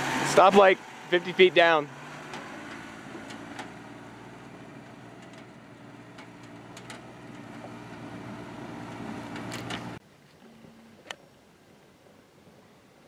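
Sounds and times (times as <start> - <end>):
pickup truck engine droning: 0.0 - 11.2.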